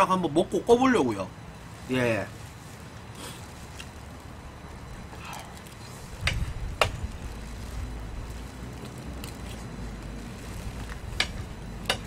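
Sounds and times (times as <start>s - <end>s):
steady low rumble: 0.8s - 12.0s.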